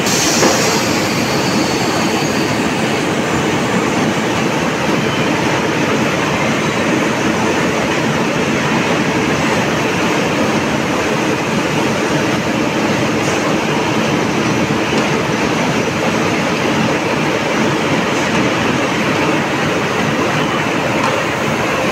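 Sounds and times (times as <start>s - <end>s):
mill machinery: 0.0s - 21.9s.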